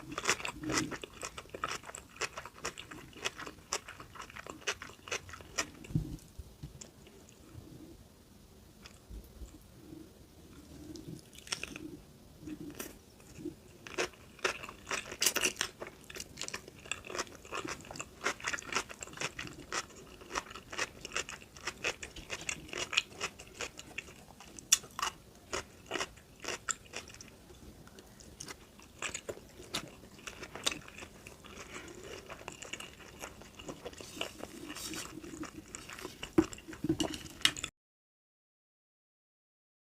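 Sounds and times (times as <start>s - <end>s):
person chewing crunchy food: 0.0s - 6.2s, 10.5s - 37.7s.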